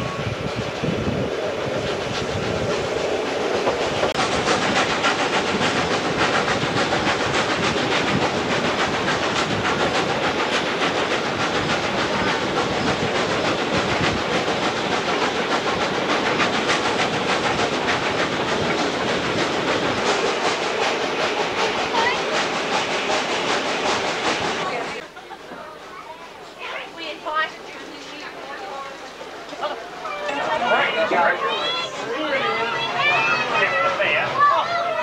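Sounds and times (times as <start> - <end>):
steam locomotive exhaust beats: 0.0 - 30.2
wheels clattering on rail: 0.0 - 35.0.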